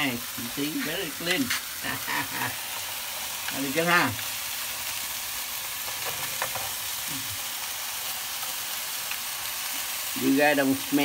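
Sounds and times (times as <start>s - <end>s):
fries bubbling in oil: 0.0s - 11.0s
patties sizzling in a pan: 0.0s - 11.0s.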